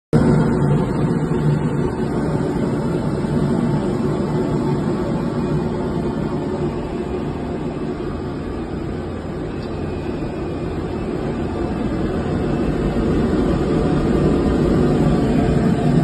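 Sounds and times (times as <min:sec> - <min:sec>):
gas burner rushing: 0:00.2 - 0:16.0.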